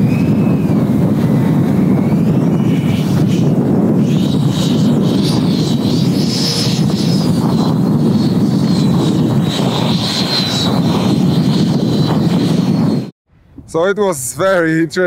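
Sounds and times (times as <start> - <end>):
electric ducted fan whining: 0.0 - 13.7.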